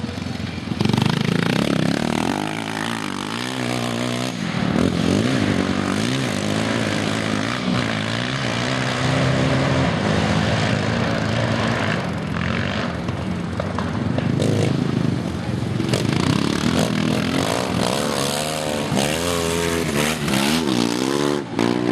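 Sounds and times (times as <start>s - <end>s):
motorcycle engines revving: 0.0s - 21.9s.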